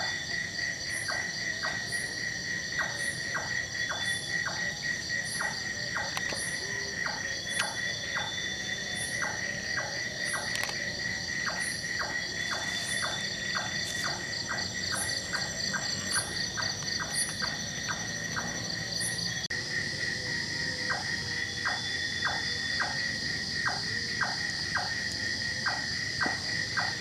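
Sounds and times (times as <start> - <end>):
steady high insect trill: 0.0 - 27.0.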